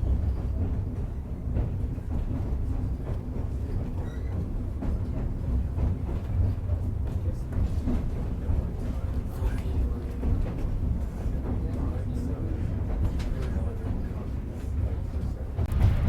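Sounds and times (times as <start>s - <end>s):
faint track clacks: 0.0s - 16.0s
train rumbling along track: 0.0s - 16.0s.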